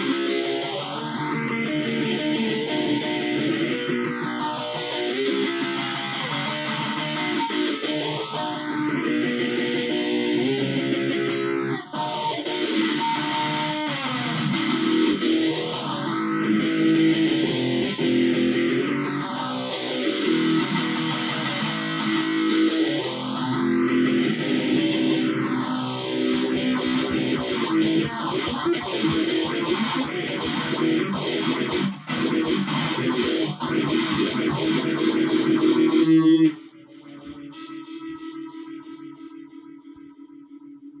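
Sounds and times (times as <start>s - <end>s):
electric guitar with sweeping modulation: 0.0s - 41.0s.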